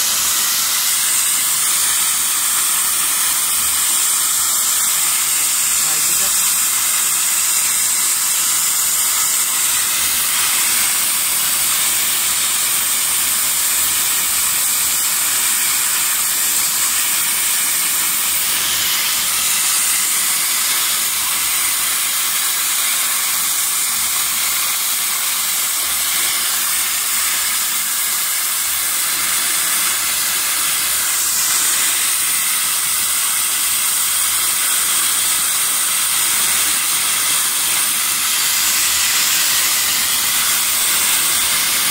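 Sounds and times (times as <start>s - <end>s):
pressure washer jets hissing: 0.0s - 41.9s.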